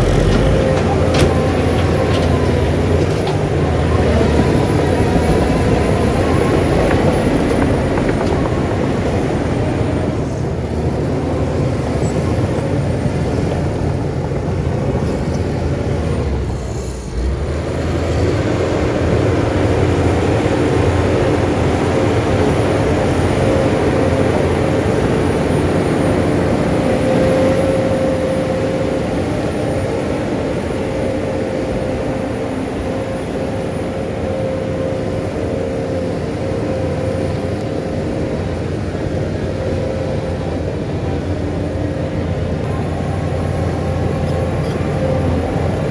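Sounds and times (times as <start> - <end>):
steady whine: 0.0 - 10.7, 19.0 - 45.9
heavy diesel machinery running: 0.0 - 45.9.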